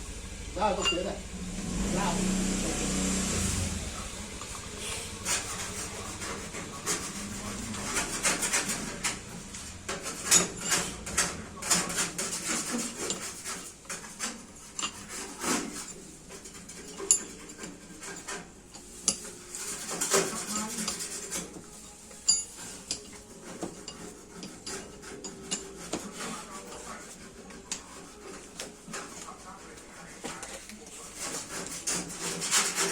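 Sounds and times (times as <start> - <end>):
scraping and rubbing on metal: 2.5 - 32.9.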